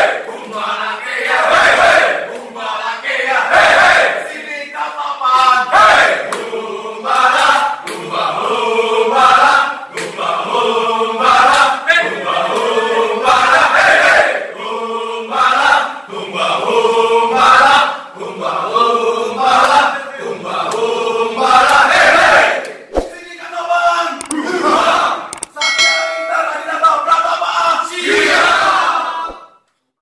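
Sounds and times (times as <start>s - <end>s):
men chanting in unison: 0.0s - 22.9s, 27.2s - 29.5s.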